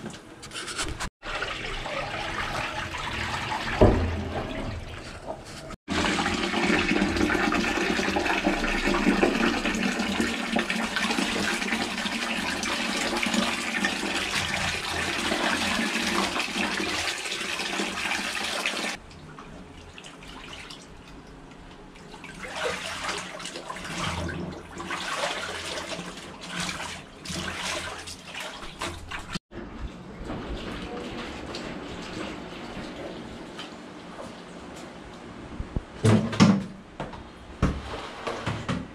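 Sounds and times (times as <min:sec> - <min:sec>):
water sloshing and splashing: 0:01.2 - 0:35.3.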